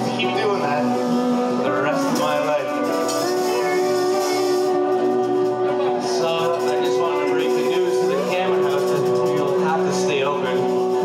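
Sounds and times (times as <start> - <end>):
folk-rock band playing: 0.0 - 11.0
long held note: 0.0 - 11.0.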